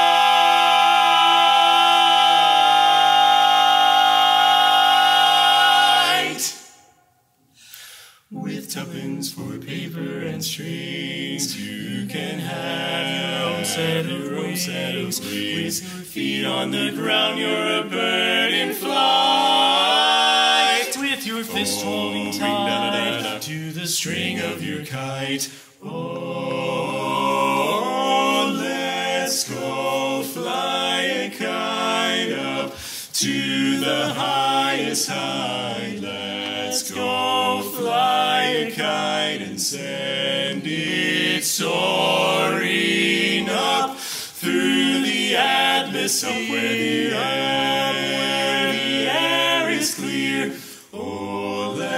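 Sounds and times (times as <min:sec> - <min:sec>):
male quartet singing in harmony: 0:00.0 - 0:06.8, 0:08.3 - 0:51.9.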